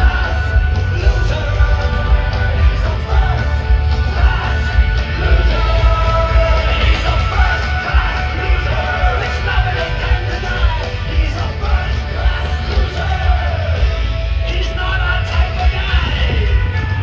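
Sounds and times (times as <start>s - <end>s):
person singing: 0.0s - 17.0s
rock band playing: 0.0s - 17.0s.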